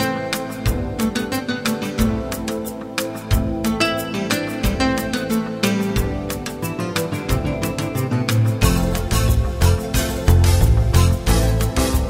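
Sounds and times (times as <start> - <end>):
song with guitar and drum beat: 0.0 - 12.0.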